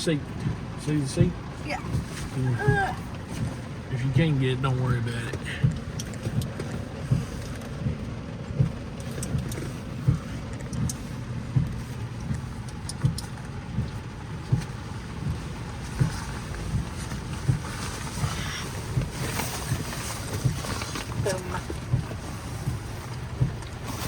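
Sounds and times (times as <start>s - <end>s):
rain falling on a car: 0.0s - 24.0s
steady low rumble: 0.0s - 24.0s.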